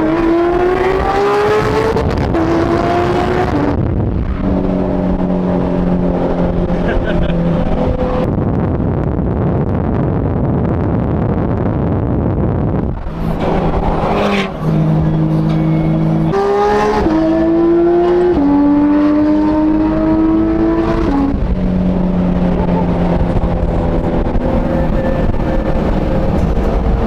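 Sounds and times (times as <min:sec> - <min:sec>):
car engine accelerating through gears: 0:00.0 - 0:08.4, 0:12.8 - 0:27.0.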